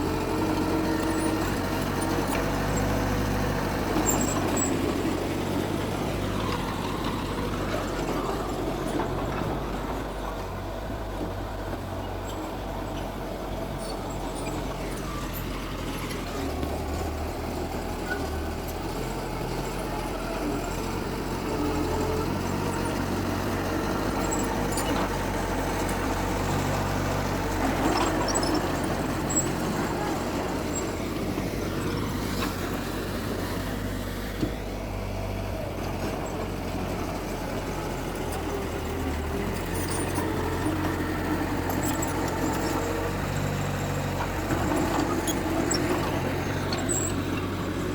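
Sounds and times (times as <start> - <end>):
diesel machinery engine hum: 0.0 - 47.9.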